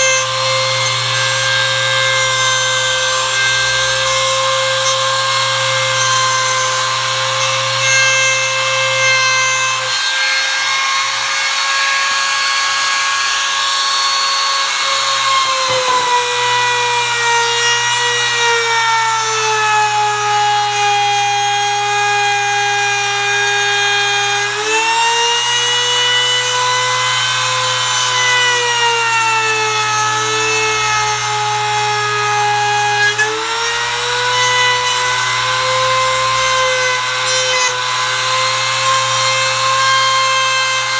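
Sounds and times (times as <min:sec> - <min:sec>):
router cutting wood: 0:00.0 - 0:40.9.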